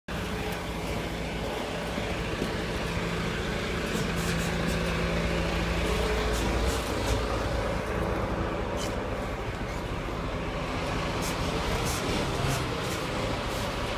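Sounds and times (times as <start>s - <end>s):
diesel engine idling: 0.1s - 13.9s.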